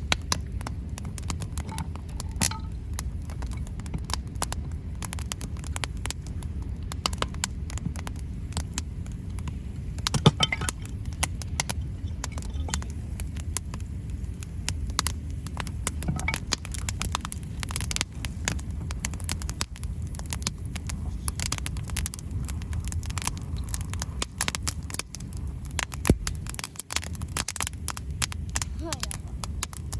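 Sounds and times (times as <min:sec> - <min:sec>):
campfire crackling: 0:00.0 - 0:29.9
low steady rumble: 0:00.0 - 0:29.9.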